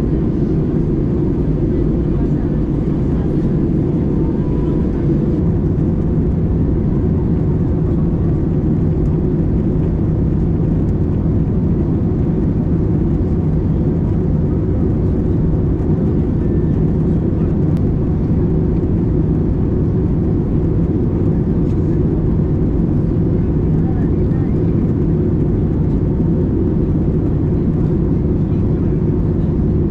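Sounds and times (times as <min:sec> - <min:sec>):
airplane cabin engine rumble: 0:00.0 - 0:29.9.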